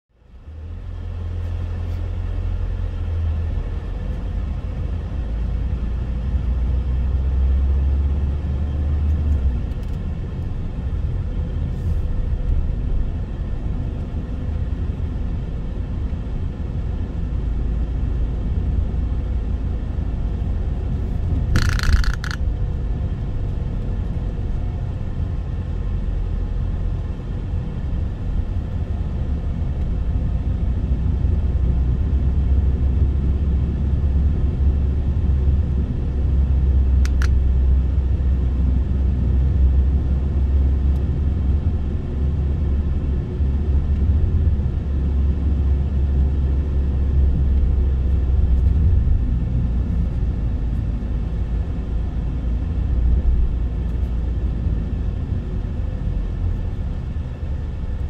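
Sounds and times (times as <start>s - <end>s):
car engine and tyre rumble: 0.1s - 58.0s.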